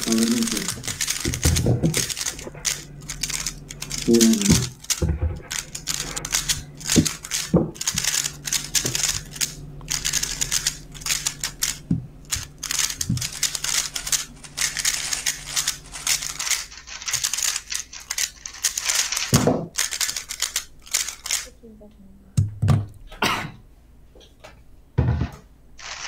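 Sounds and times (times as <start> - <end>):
puzzle cube plastic clicking: 0.0 - 21.5.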